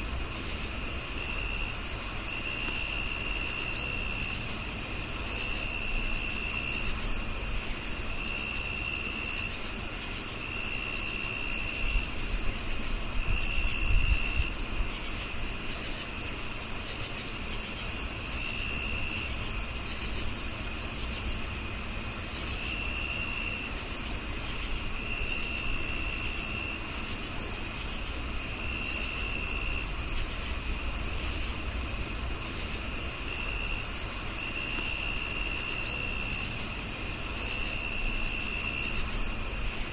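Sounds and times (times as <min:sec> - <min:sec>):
cricket chirping steadily: 0:00.0 - 0:39.9
high-pitched cricket trill: 0:00.0 - 0:39.9
lower cricket trills: 0:00.0 - 0:39.9.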